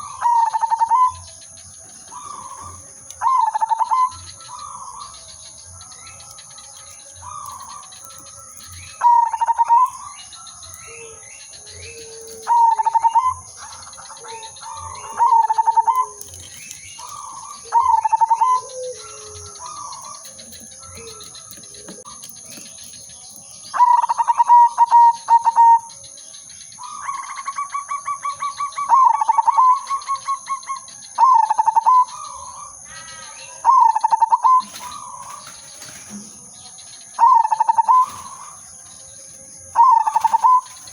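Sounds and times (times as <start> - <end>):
dove cooing in staccato phrases: 0.0 - 5.9, 8.9 - 10.3, 11.1 - 22.8, 23.7 - 26.0, 26.8 - 36.1, 36.8 - 39.0, 39.7 - 40.9
small birds chirping faintly: 0.0 - 40.9.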